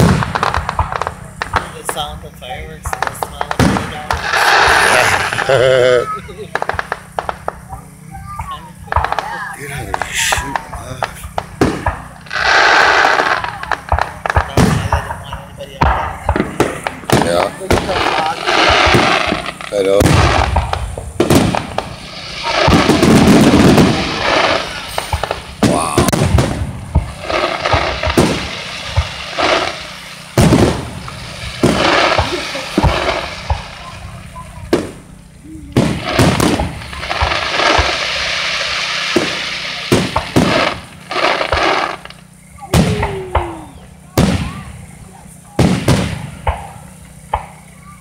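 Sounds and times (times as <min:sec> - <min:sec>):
fireworks bangs: 0:00.0 - 0:48.0
fireworks crackling: 0:00.0 - 0:48.0
fireworks pops: 0:00.0 - 0:48.0.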